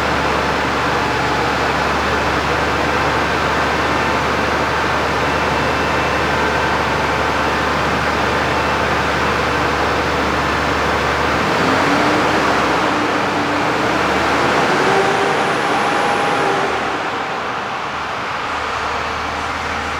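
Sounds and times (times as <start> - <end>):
diesel truck engine idling: 0.0 - 19.9.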